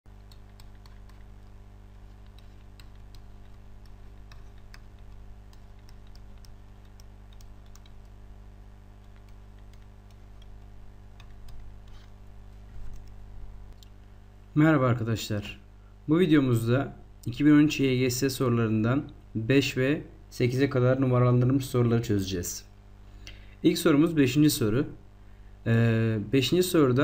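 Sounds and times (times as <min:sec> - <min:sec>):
low electrical hum: 0:00.1 - 0:27.0.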